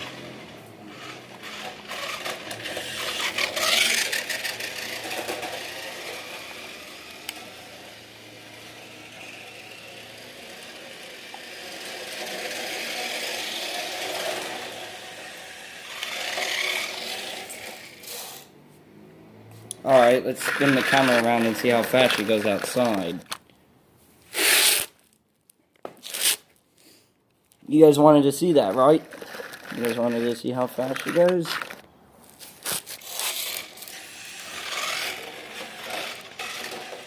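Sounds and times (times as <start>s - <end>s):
toy car electric motor whirring: 0.0s - 18.5s, 19.9s - 23.4s, 24.3s - 25.0s, 28.6s - 31.8s, 32.4s - 37.0s
toy car wheels rattling: 0.0s - 18.5s, 19.9s - 23.4s, 24.3s - 25.2s, 27.8s - 37.0s.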